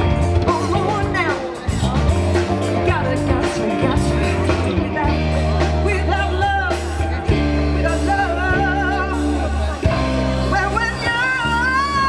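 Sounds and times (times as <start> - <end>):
drum kit: 0.0 - 12.0
electric bass: 0.0 - 12.0
electric guitar: 0.0 - 12.0
woman singing: 0.4 - 12.0.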